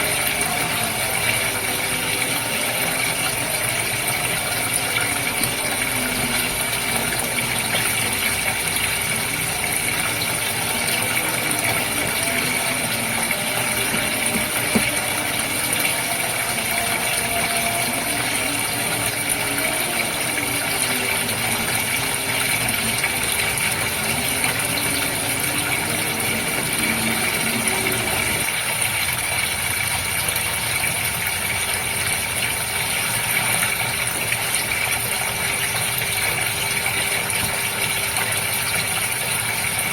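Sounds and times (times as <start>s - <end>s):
aquarium pump hum: 0.0s - 39.9s
water running and splashing: 0.0s - 39.9s.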